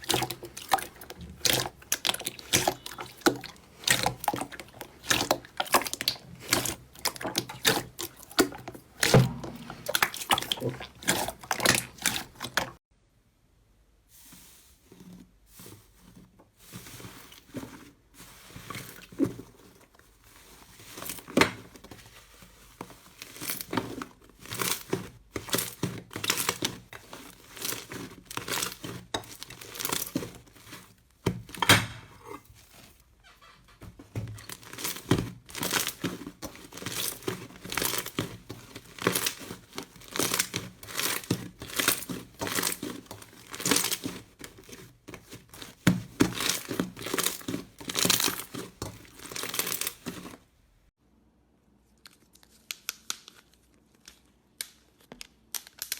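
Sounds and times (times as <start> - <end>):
slime crackling and squishing: 0.0 - 12.8, 15.3 - 50.6.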